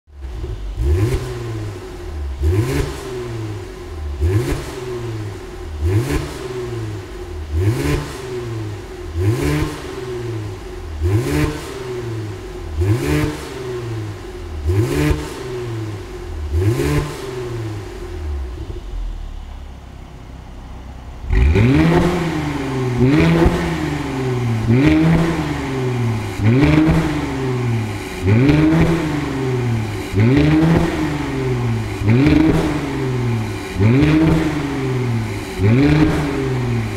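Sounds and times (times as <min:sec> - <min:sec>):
car engine revving: 0:00.1 - 0:36.9.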